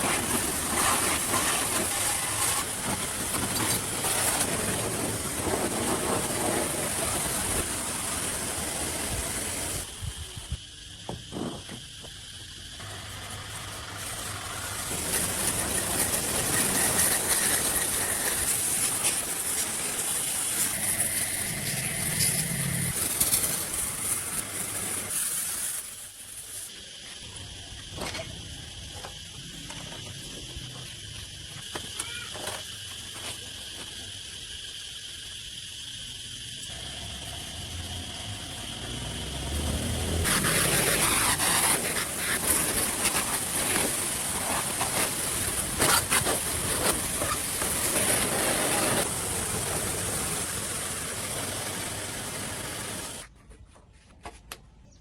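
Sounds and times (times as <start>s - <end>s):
arc welding crackling hiss: 0.0s - 53.3s.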